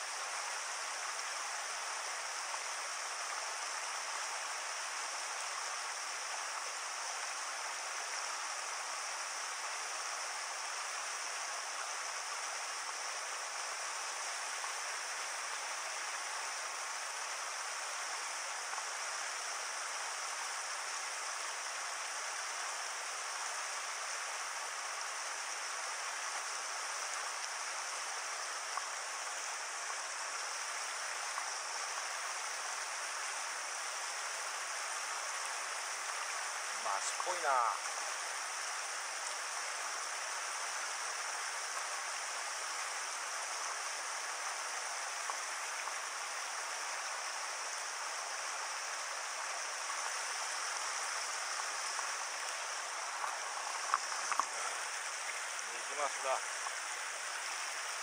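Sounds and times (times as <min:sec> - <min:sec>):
river rapids rushing over boulders: 0:00.0 - 0:58.0.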